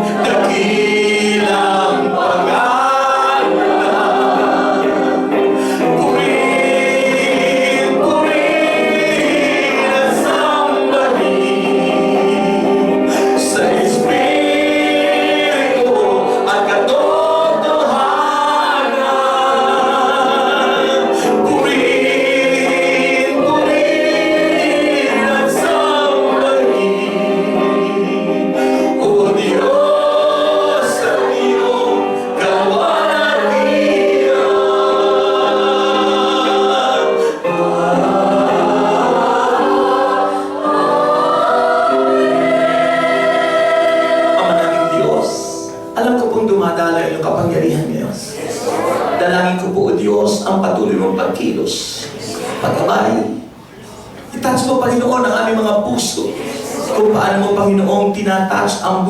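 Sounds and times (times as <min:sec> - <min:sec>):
group singing worship song: 0:00.0 - 0:59.0
steady held notes: 0:00.0 - 0:59.0.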